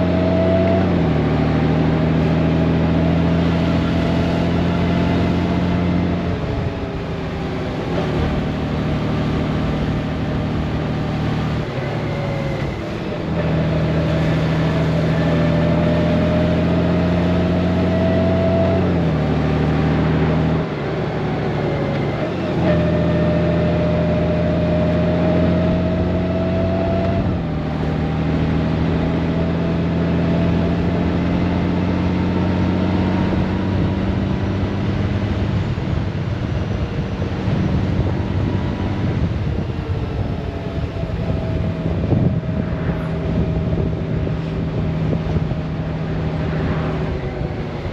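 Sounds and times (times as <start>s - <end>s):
wind and road rush: 0.0s - 47.9s.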